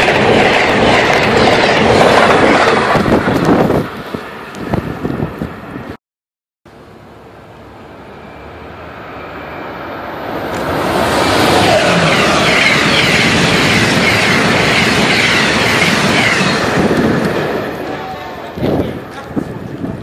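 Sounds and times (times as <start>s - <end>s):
train passing at high speed: 0.0s - 6.0s, 6.7s - 20.0s.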